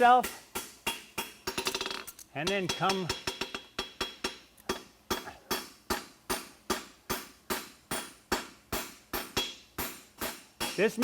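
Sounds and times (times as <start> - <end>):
hammer striking hot steel on anvil: 0.0 - 11.0.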